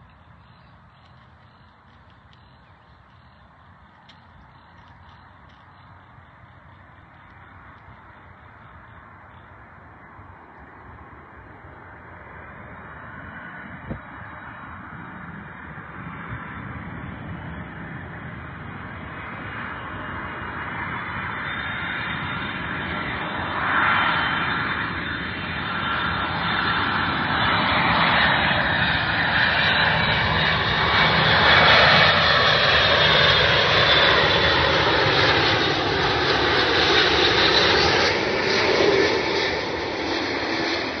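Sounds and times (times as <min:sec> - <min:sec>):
jet engines roaring overhead: 0:00.0 - 0:41.0.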